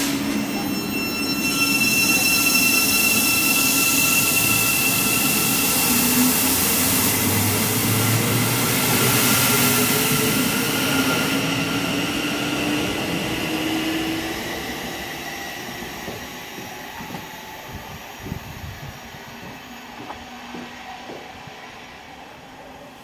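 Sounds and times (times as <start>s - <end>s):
rail and wheel noise: 0.0s - 23.0s.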